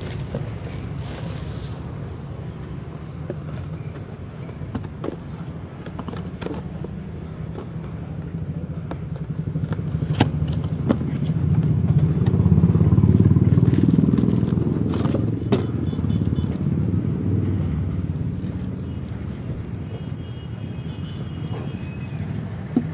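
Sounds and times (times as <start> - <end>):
engine rumbling: 0.0 - 22.9.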